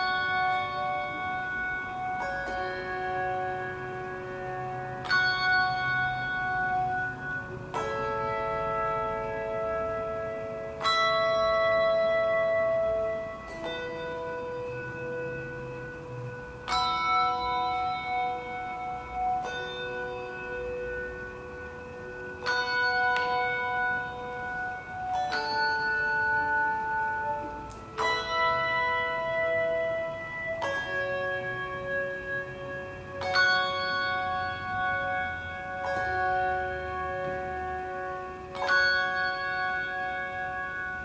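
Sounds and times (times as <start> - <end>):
handbell choir ringing chords: 0.0 - 41.0.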